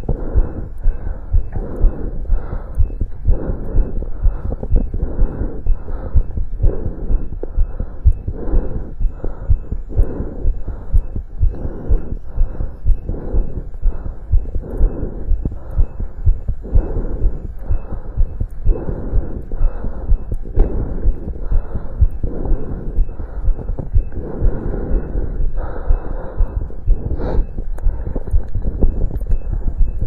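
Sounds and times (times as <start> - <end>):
heartbeat thuds through stethoscope: 0.0 - 30.0
whooshing blood flow noise: 0.0 - 30.0.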